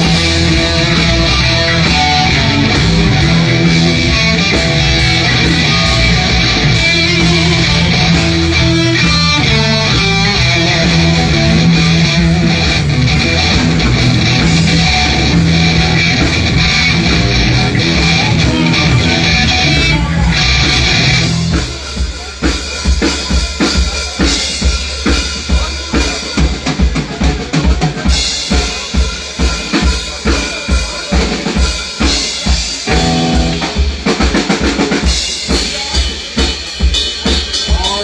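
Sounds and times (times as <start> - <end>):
drum kit steady beat: 0.0 - 38.0
live band playing: 0.0 - 38.0.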